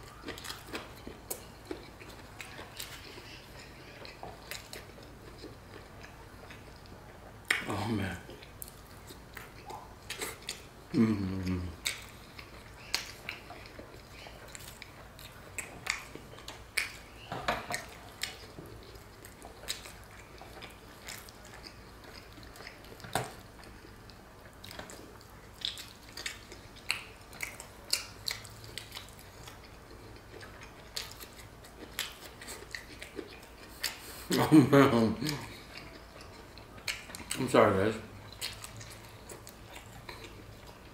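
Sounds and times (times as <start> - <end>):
person chewing: 0.0 - 40.9.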